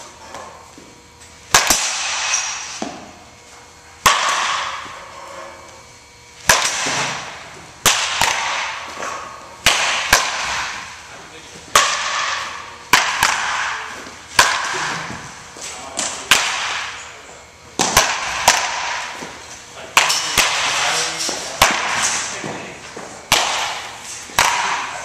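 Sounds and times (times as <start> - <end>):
bat cracking against ball: 1.4 - 3.3, 4.0 - 5.6, 6.4 - 11.1, 11.7 - 15.4, 16.0 - 17.0, 17.7 - 25.0.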